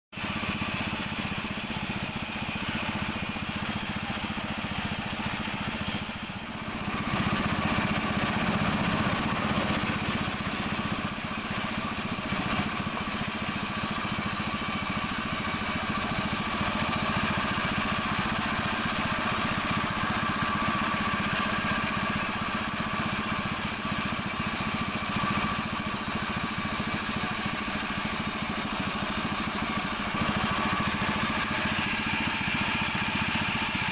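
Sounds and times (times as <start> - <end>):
sawmill machinery running: 0.1 - 33.9.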